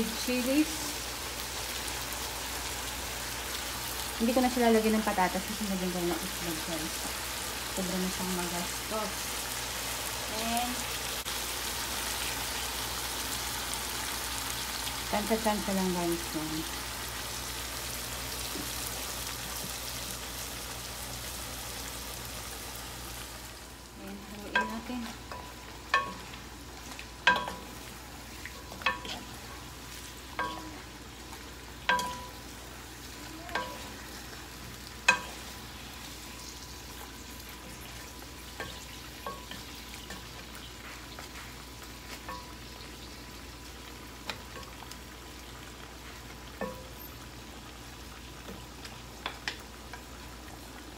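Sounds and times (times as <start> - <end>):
meat sizzling in a pot: 0.0 - 50.9.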